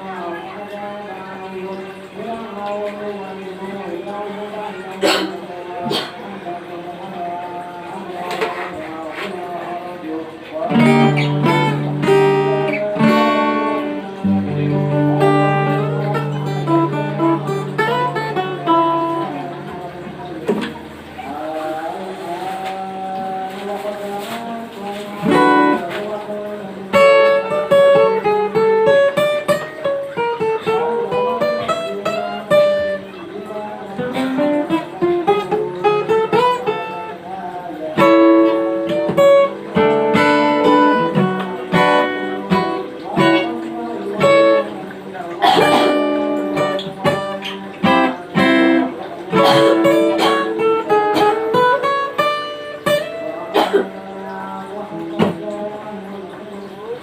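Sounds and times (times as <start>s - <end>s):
plucked notes: 10.2s - 21.8s, 22.5s - 57.0s.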